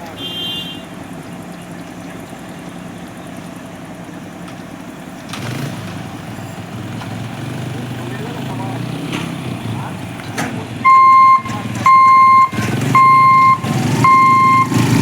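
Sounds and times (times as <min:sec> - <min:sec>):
vehicle engines idling: 0:00.0 - 0:15.0.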